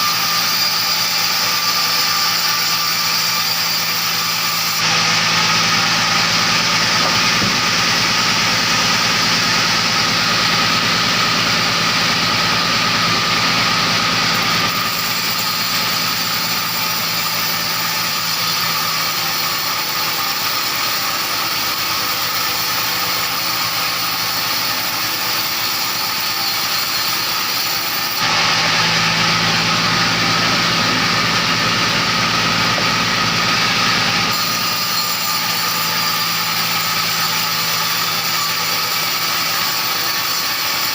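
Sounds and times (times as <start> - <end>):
engine-driven saw running: 0.0 - 40.9.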